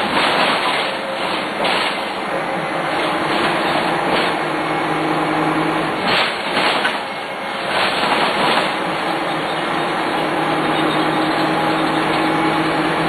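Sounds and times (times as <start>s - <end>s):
diesel bus engine running: 0.0s - 13.0s.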